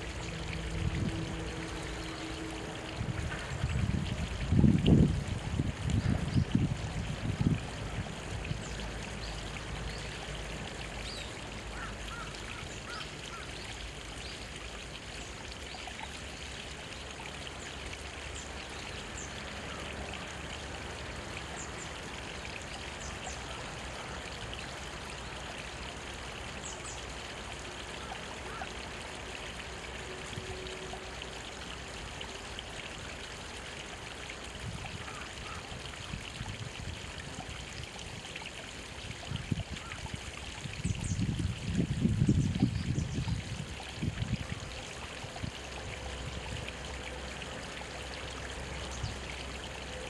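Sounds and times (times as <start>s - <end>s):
stream trickling over rocks: 0.0s - 50.0s.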